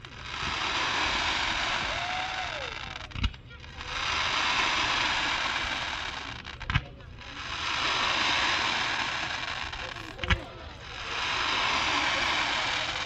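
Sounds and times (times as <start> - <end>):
firework bang: 0.0 - 13.0
hiss of spraying fireworks: 0.0 - 13.0.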